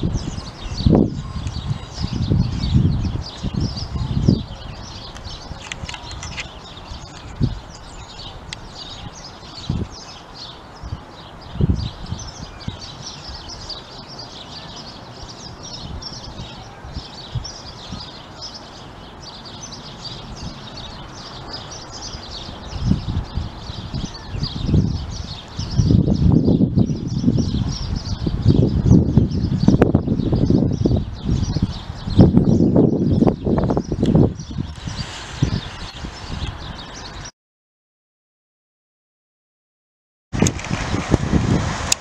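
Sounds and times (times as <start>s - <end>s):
small birds chirping and singing: 0.0s - 37.3s
wind buffeting microphone: 0.0s - 37.3s, 40.4s - 42.0s.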